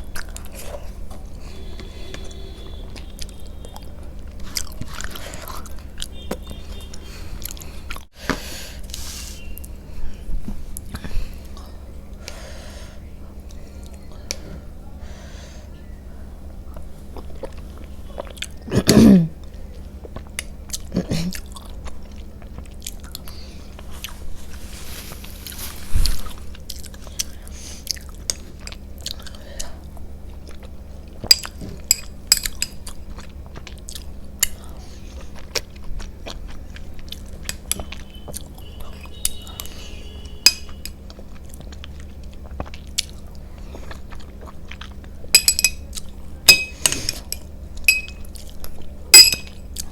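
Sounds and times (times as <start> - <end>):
chewing and mouth sounds: 0.0 - 8.1, 16.7 - 49.9.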